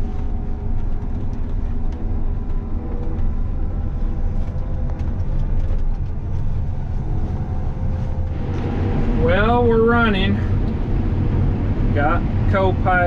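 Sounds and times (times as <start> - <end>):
combine engine drone: 0.0 - 13.0.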